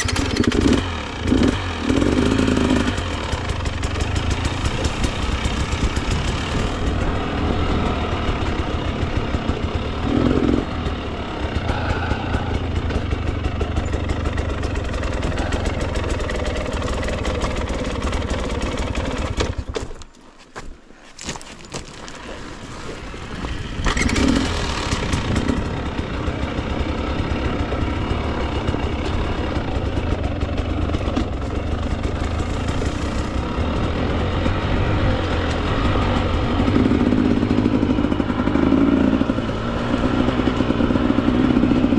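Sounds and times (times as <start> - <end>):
dirt bike engine running: 0.0 - 20.0, 21.6 - 41.9.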